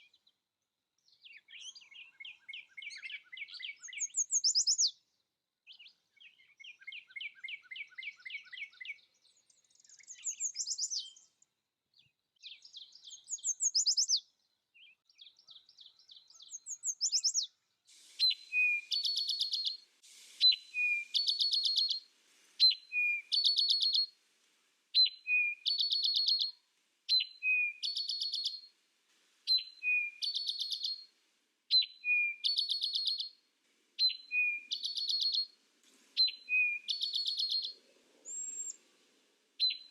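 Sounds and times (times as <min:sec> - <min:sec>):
songbird singing trills: 0:01.0 - 0:05.0, 0:05.7 - 0:11.3, 0:12.0 - 0:24.1, 0:25.0 - 0:28.8, 0:29.5 - 0:31.1, 0:31.7 - 0:33.4, 0:34.0 - 0:38.9, 0:39.6 - 0:39.9.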